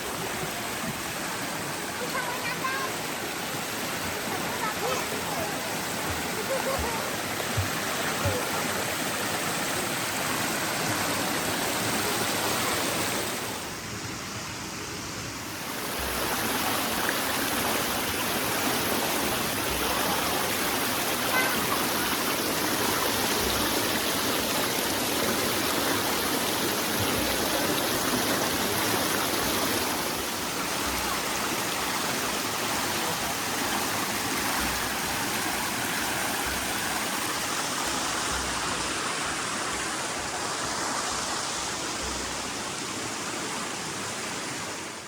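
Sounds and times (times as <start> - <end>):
flowing water rushing: 0.0 - 45.0.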